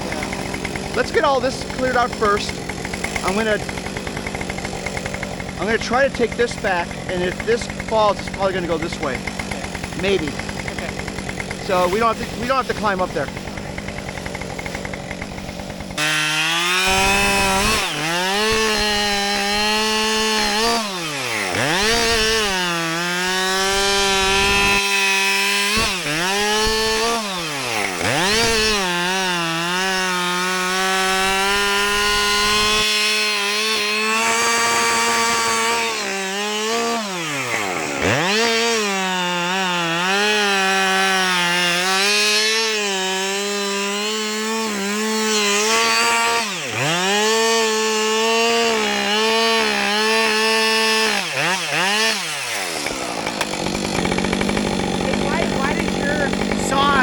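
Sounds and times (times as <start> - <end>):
chainsaw cutting into tree: 0.0 - 57.0.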